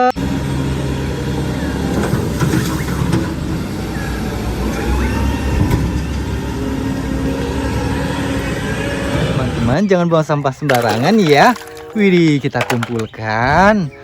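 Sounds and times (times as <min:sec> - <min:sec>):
garbage truck engine rumbling: 0:00.0 - 0:14.0.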